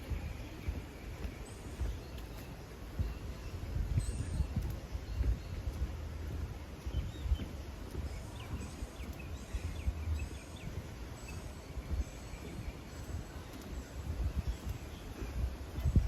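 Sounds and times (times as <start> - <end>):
low rumble on microphone: 0.0 - 16.0
small birds chirping faintly: 0.0 - 16.0.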